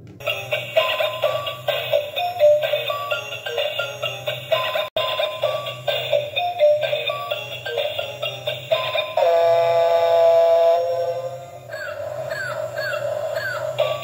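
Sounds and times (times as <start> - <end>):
toy electronic beeping melody: 0.2 - 9.5, 10.6 - 14.0
toy motor pulsing hum: 0.2 - 14.0.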